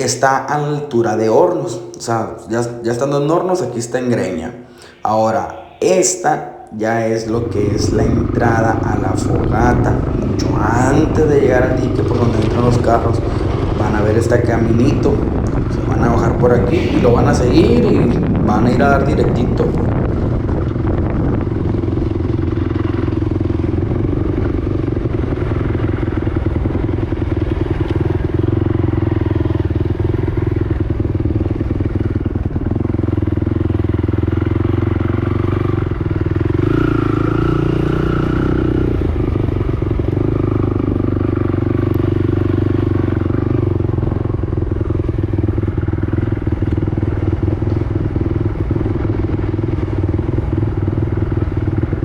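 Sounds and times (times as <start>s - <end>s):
quad engine running: 7.2s - 52.0s.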